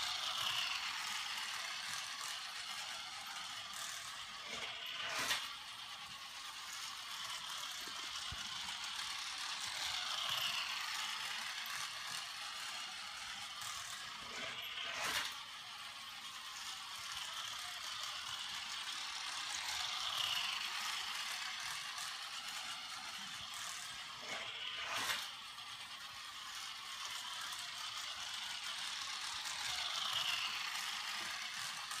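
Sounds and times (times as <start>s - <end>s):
toy race car whirring: 0.0s - 32.0s.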